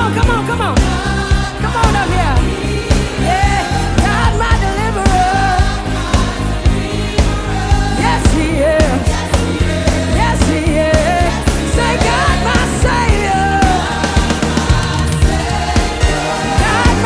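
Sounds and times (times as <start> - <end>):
band with bass keys and drums: 0.0 - 17.0
group singing gospel music: 0.0 - 17.0.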